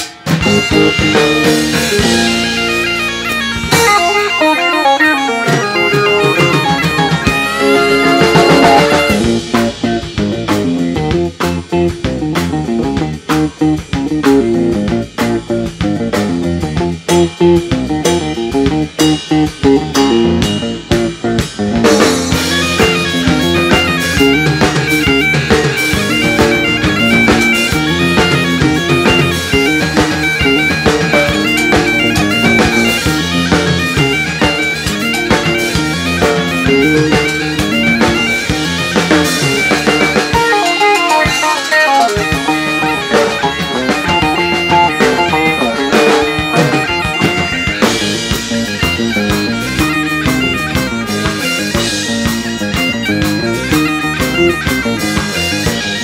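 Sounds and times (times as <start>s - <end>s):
bagpipes: 0.0s - 56.0s
drum kit: 0.0s - 56.0s
electric guitar: 0.0s - 56.0s.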